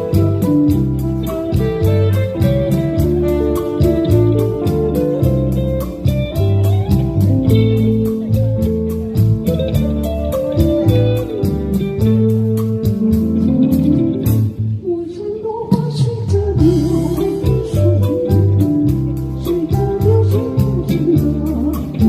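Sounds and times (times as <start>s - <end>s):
bass line: 0.0s - 14.8s, 15.9s - 22.0s
guitar melody: 0.0s - 22.0s.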